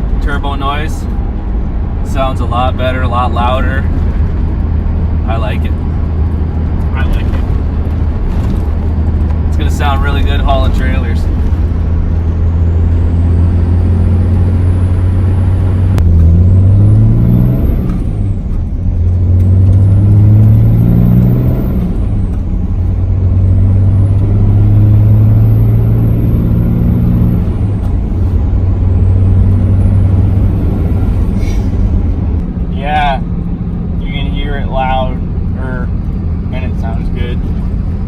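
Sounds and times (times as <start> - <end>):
diesel engine drone: 0.0 - 38.0.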